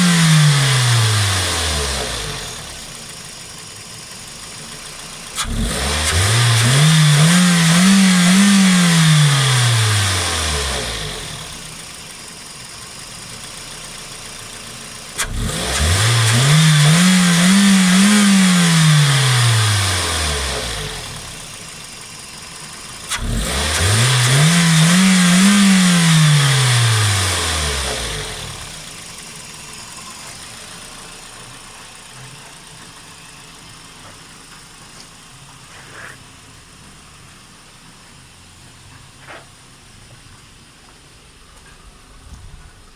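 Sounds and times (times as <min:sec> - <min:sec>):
car engine revving and idling: 0:00.0 - 0:42.9.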